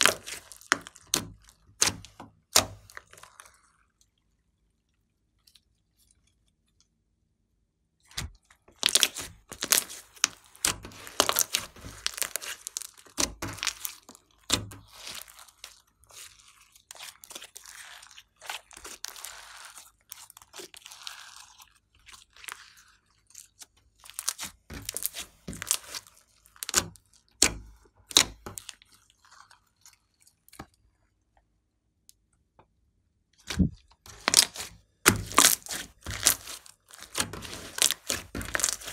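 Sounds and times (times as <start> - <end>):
slime crackling and popping: 0.0 - 4.1, 8.1 - 30.7, 33.4 - 38.9.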